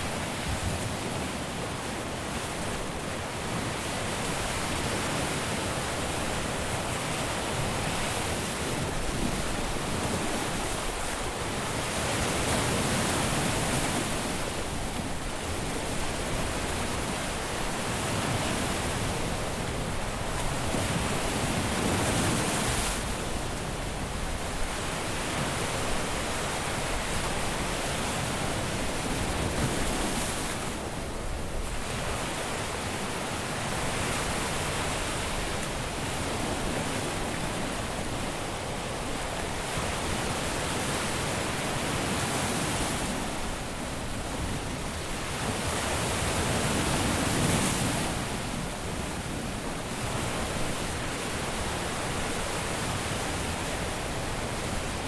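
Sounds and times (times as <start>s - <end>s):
waves washing on beach: 0.0s - 55.0s.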